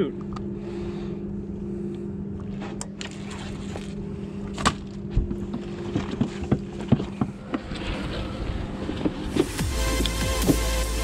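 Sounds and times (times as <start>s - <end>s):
steady two-tone hum: 0.0s - 11.0s.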